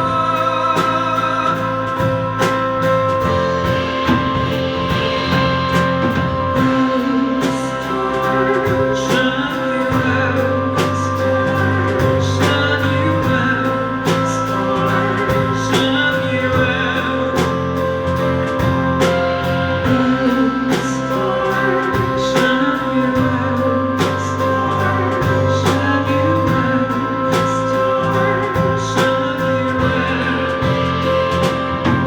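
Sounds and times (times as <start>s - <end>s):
guitar chords: 0.0s - 32.0s
steady drum beat: 0.0s - 32.0s.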